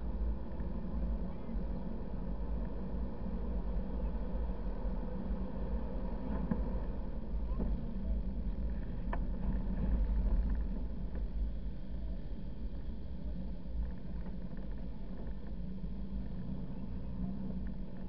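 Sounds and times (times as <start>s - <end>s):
car driving on dirt road: 0.0s - 18.0s.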